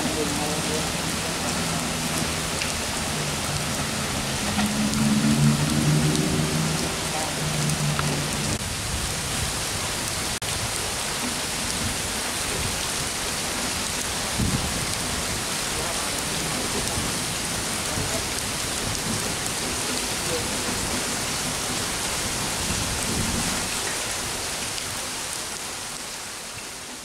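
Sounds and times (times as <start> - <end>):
heavy rain hissing: 0.0 - 27.0.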